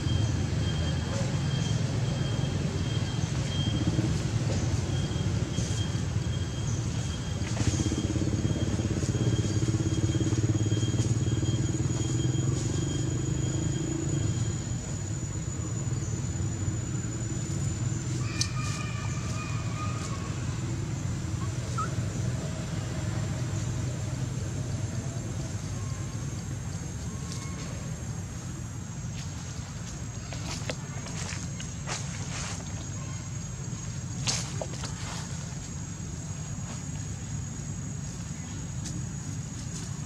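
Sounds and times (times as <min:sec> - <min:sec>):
vehicle engine rumble: 0:00.0 - 0:40.0.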